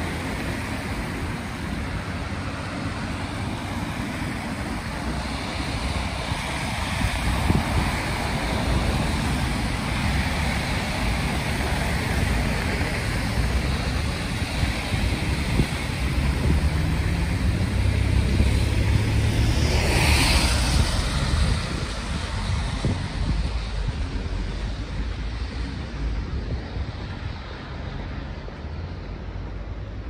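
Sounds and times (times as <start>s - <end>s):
cars passing with tyre hiss: 0.0s - 30.0s
wind buffeting the microphone: 0.0s - 30.0s.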